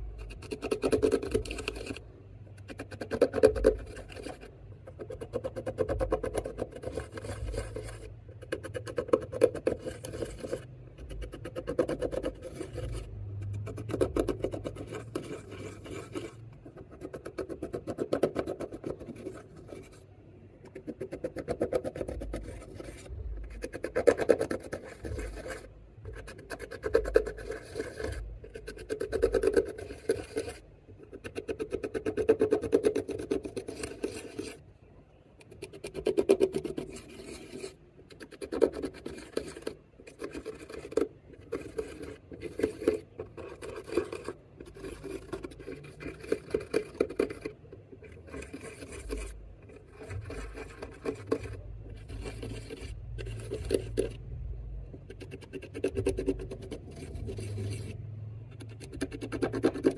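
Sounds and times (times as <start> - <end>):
gritty scraping of eyeshadow: 0.0 - 34.6, 35.4 - 54.3, 54.9 - 59.9.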